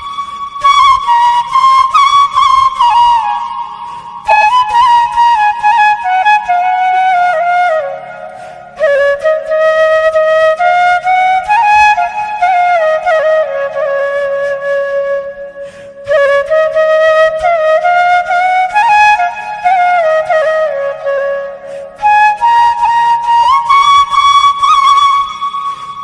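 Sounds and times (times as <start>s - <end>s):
solo flute melody: 0.0s - 26.0s.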